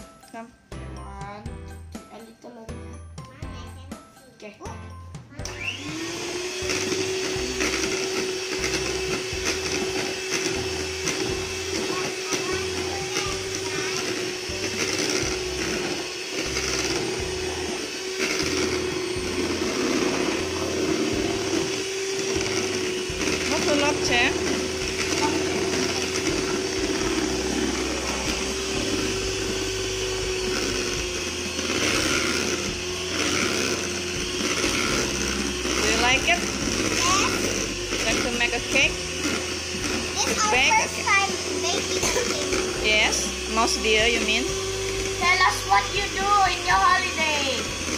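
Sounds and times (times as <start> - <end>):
electric hand mixer whirring: 4.4 - 47.9.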